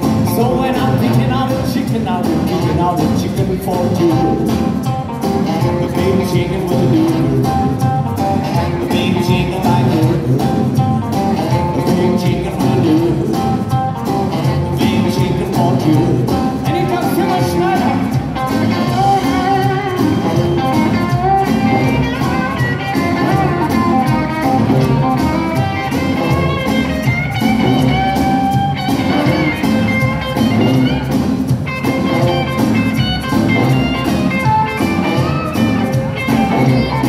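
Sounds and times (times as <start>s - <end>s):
drums: 0.0s - 37.0s
electric guitar: 0.0s - 37.0s
upright bass: 0.0s - 37.0s.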